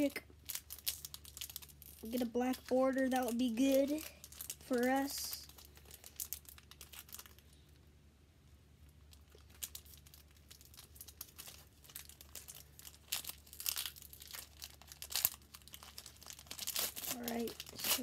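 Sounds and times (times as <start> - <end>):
foil wrapper tearing and crinkling: 0.0 - 7.5, 9.1 - 18.0.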